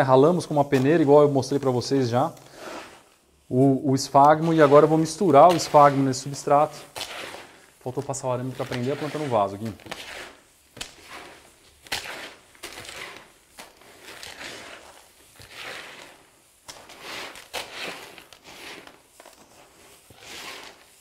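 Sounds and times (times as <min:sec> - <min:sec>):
gritty soil rustling and crunching: 0:00.0 - 0:21.0.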